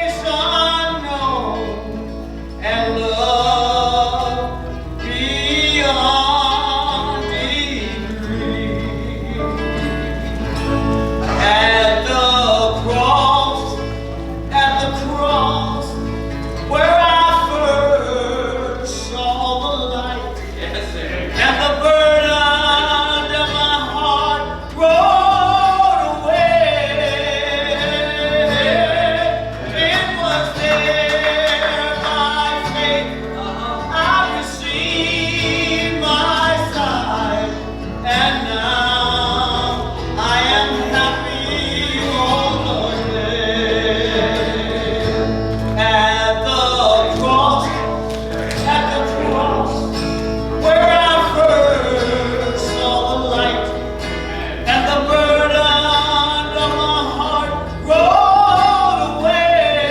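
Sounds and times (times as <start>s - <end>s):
hymn singing: 0.0s - 59.9s.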